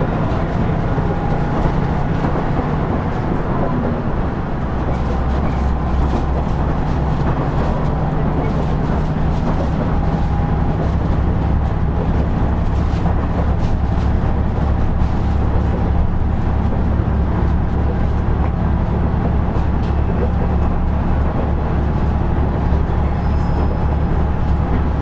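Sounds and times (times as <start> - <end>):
diesel engine humming: 0.0 - 25.0
wheels running on rails: 0.0 - 25.0.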